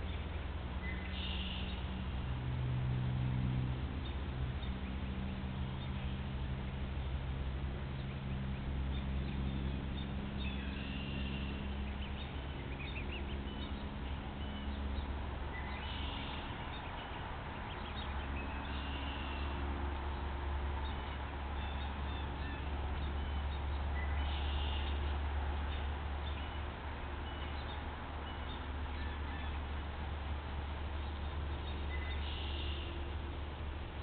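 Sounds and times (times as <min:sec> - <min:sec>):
low hum and hiss: 0:00.0 - 0:34.0.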